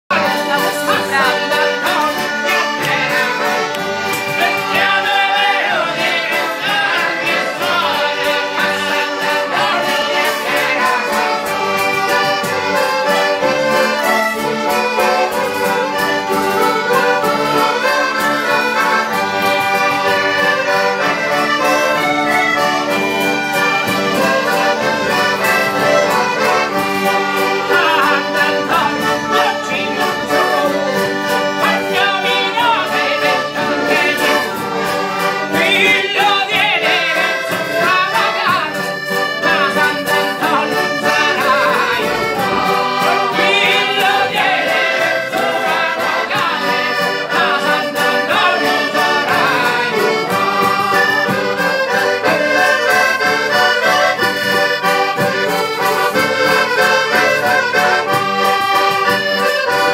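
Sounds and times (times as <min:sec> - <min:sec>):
accordion playing folk tune: 0:00.1 - 0:59.9
people singing: 0:00.1 - 0:59.9.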